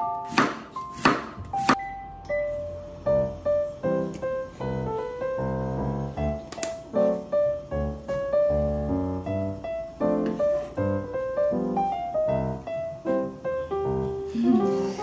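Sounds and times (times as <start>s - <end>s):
simple piano melody: 0.0s - 15.0s.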